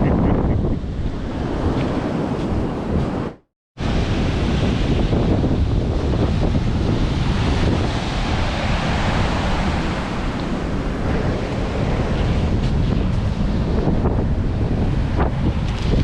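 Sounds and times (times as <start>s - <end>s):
sea surf breaking on shore: 0.0s - 16.0s
wind buffeting microphone: 0.0s - 16.0s.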